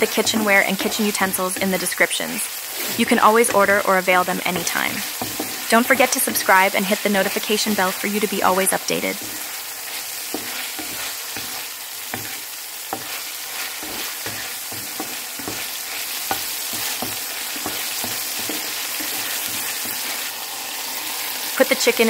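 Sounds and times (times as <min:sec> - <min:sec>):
wooden spatula scraping pan: 0:00.0 - 0:20.3
chicken sizzling in oil: 0:00.0 - 0:22.0.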